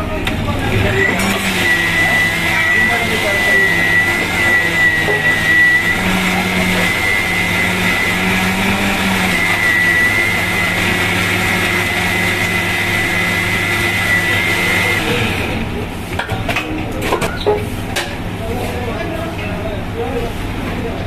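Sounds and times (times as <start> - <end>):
mixer grinder whining: 0.0 - 19.2.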